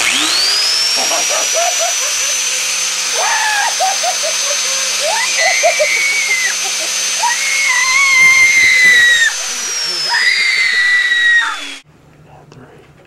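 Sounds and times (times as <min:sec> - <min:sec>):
motor running with high whine: 0:00.0 - 0:11.8.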